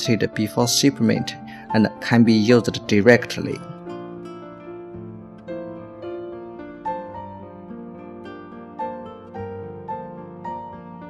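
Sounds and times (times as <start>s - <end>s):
plucked-string music: 0.0s - 11.0s.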